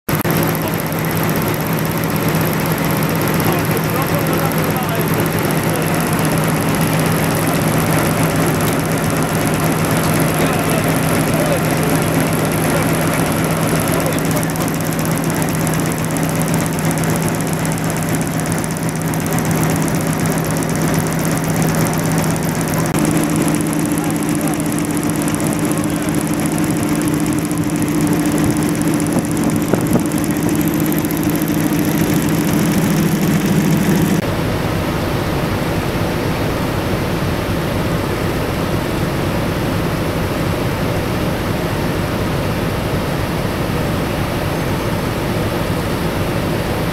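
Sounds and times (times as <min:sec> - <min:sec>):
diesel locomotive idling: 0:00.1 - 0:46.9.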